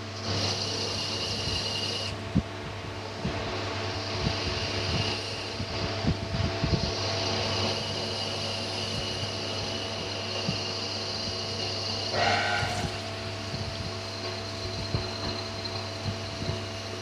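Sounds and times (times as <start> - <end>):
lathe machine hum: 0.0 - 17.0.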